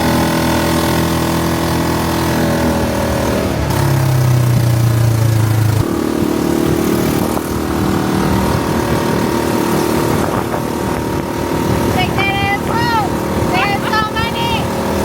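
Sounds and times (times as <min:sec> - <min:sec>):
road and wind noise: 0:00.0 - 0:15.0
vehicle motor hum: 0:00.0 - 0:15.0.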